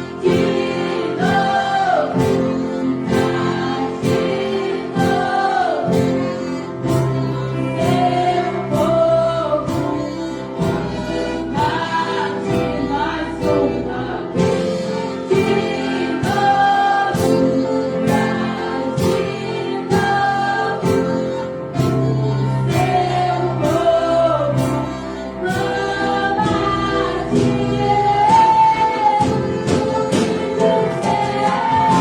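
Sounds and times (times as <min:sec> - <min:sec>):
choir singing: 0:00.0 - 0:32.0
steady percussion beat: 0:00.0 - 0:32.0.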